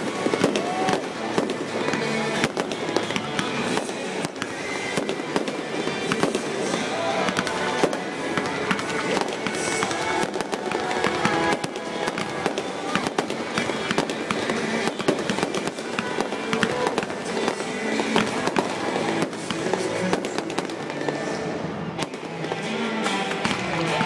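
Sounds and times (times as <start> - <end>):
fireworks bursting: 0.0 - 24.0
music playing: 0.0 - 24.0.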